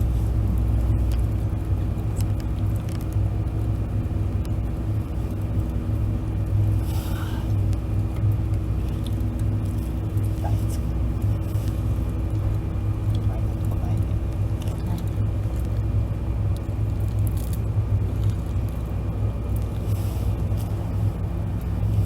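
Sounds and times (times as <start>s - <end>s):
faint hum: 0.0s - 22.0s
low rumble: 0.0s - 22.0s.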